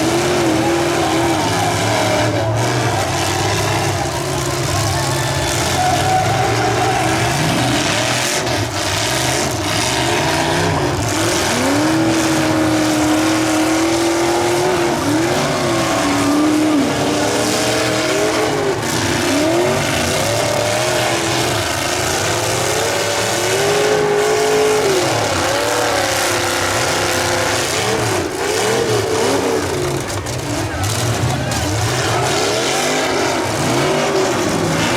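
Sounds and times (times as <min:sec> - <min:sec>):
car engines revving: 0:00.0 - 0:34.9
tires skidding: 0:00.0 - 0:34.9.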